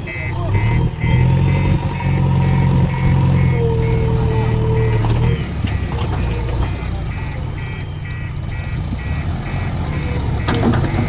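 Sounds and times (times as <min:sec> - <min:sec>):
diesel engine rumble: 0:00.0 - 0:11.0
reversing alarm beeping: 0:00.0 - 0:11.0.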